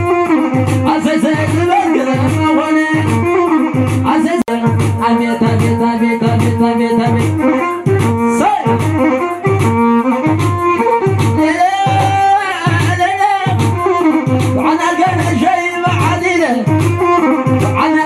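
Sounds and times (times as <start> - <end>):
band playing wedding music: 0.0 - 18.0
low drum beat: 0.0 - 18.0
vibrato melody line: 0.0 - 18.0.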